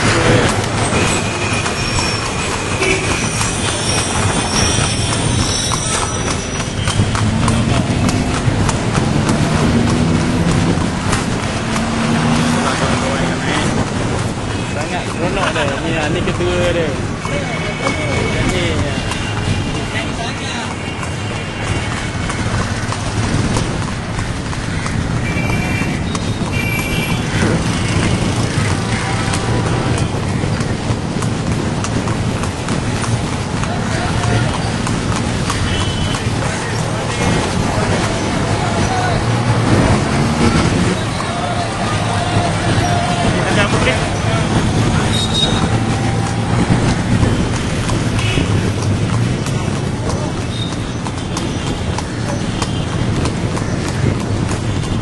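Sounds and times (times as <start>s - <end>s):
horse hooves clattering: 0.0s - 55.0s
traffic noise: 0.0s - 55.0s
vehicle engine and road rumble: 0.0s - 55.0s.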